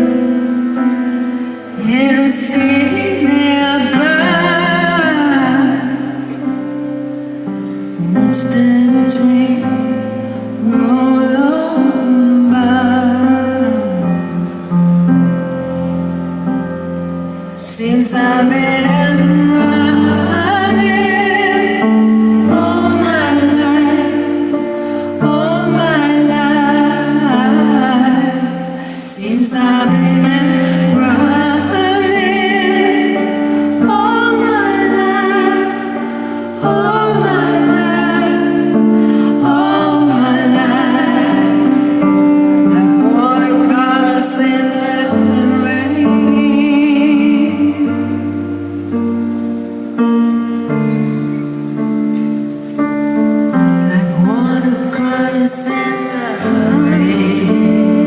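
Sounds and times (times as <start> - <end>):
woman singing with vibrato: 0.0 - 16.2, 17.2 - 48.8, 53.5 - 58.0
pop band playing chords: 0.0 - 58.0.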